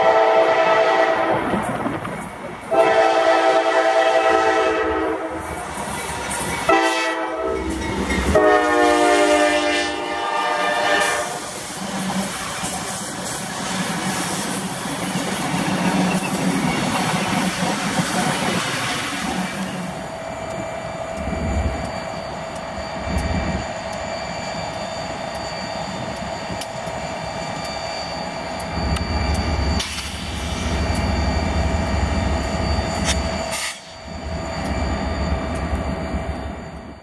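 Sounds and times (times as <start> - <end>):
freight train rumbling on rails: 0.0 - 37.0.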